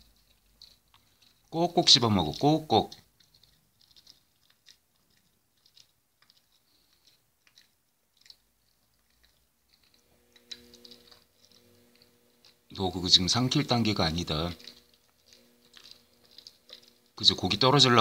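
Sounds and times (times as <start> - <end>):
dog chewing crunching: 0.0 - 18.0.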